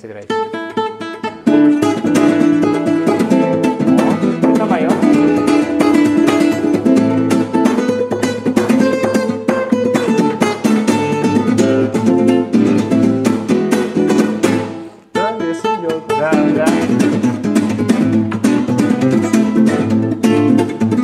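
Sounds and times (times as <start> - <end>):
nylon-string guitar strumming: 0.1 - 21.0.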